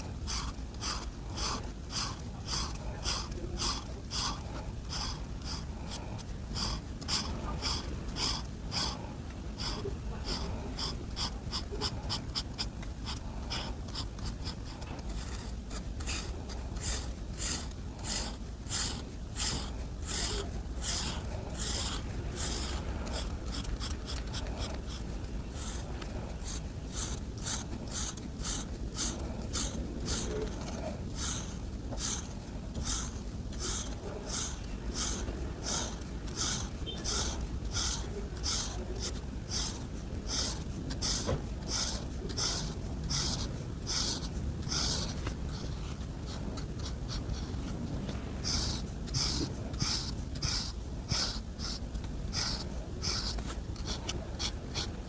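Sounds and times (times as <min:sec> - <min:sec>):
coloring strokes scratching on paper: 0:00.0 - 0:55.0.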